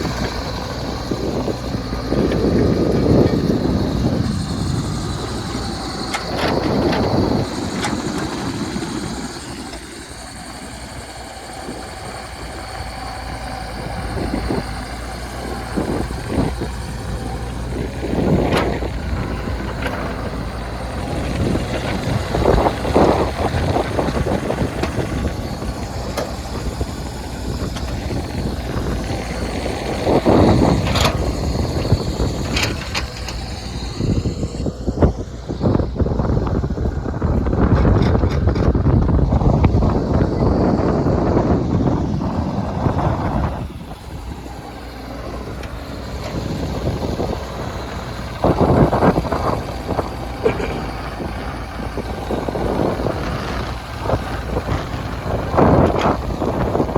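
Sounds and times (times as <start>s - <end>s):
heavy diesel machine engine: 0.0s - 56.9s.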